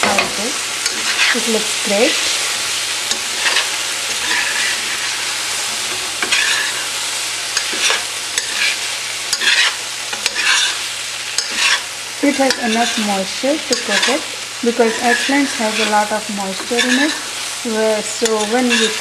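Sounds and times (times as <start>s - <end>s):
spoon scraping a pan: 0.0s - 19.0s
vegetables sizzling in oil: 0.0s - 19.0s.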